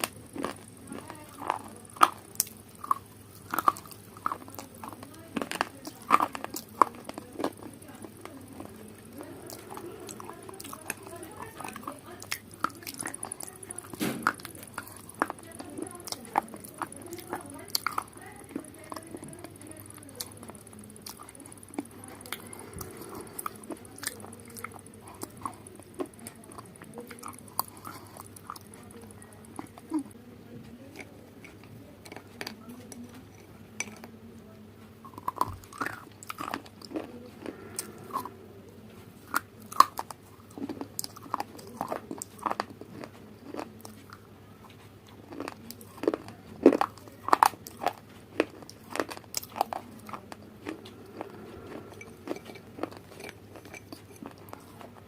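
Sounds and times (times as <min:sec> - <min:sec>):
person eating crunchy food: 0:00.0 - 0:34.1, 0:34.9 - 0:55.0.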